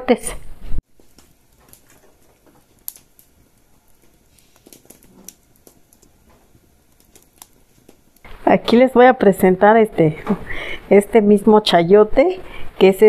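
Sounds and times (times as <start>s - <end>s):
wood fire crackling: 0.2s - 13.0s
fire popping: 0.4s - 11.5s.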